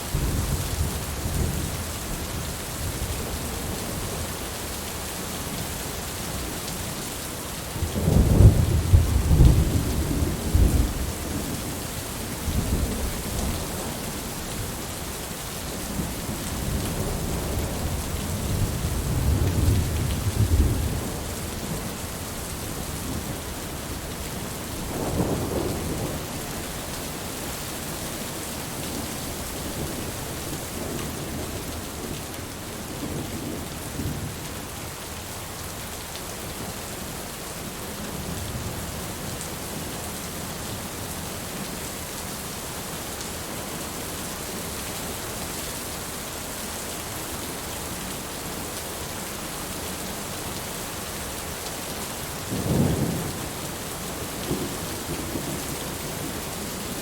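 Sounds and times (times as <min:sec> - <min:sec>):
heavy rain hissing: 0:00.0 - 0:41.7, 0:42.3 - 0:57.0.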